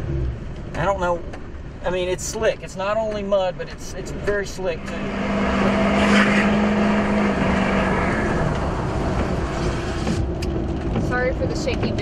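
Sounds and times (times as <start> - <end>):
car engine pulling: 0.0 - 12.0.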